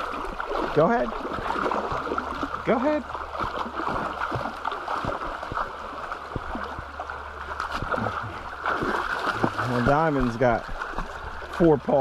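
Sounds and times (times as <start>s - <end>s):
dog wading and splashing: 0.0s - 12.0s
river water gurgling over rocks: 0.0s - 12.0s.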